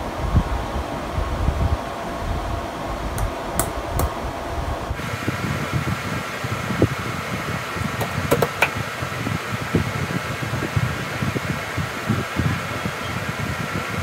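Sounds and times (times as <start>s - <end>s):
electric fan whirring: 0.0s - 14.0s.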